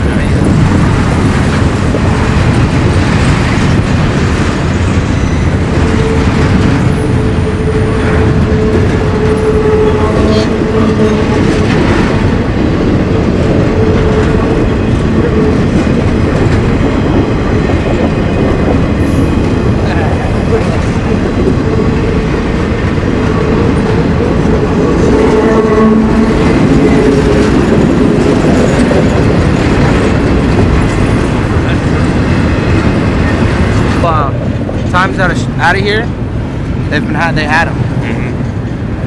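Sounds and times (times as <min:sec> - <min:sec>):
train wheels rumbling and clattering: 0:00.0 - 0:39.0.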